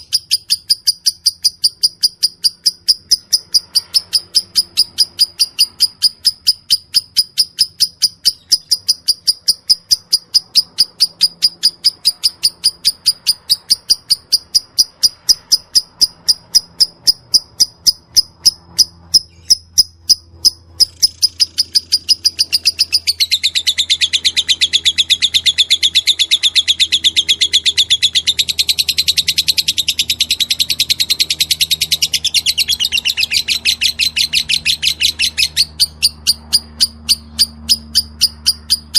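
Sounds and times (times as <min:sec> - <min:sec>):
lovebird chirping: 0:00.0 - 0:38.9.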